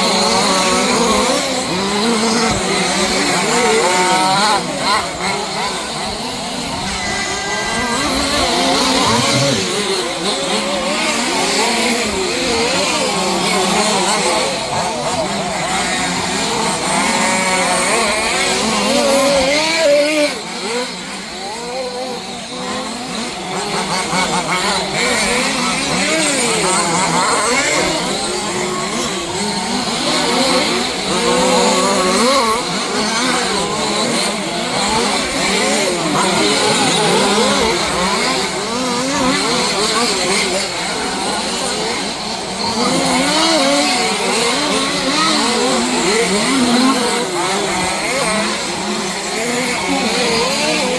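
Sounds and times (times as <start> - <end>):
rc car engines buzzing: 0.0 - 50.9.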